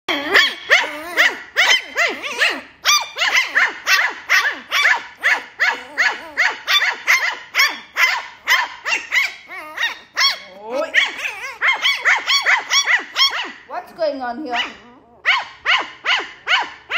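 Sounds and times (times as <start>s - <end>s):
puppies yapping: 0.1s - 13.7s, 14.4s - 16.9s.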